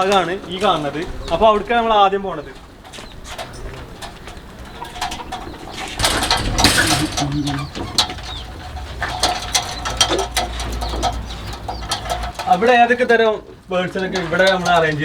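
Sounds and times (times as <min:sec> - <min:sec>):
pigeons cooing: 0:00.0 - 0:12.6
loud rustling: 0:00.0 - 0:15.0.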